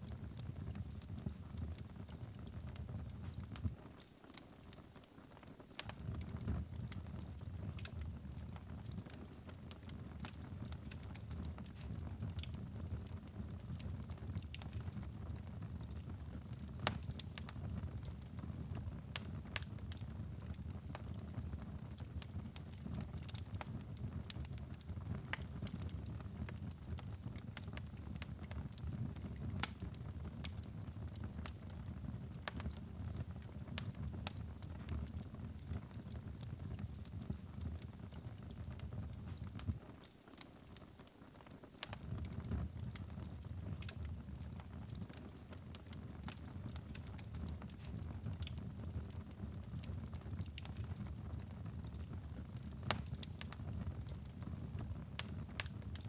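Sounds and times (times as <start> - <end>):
fireplace fire crackling and popping: 0.0 - 56.0
low rumble of flames: 5.8 - 39.8, 41.8 - 56.0.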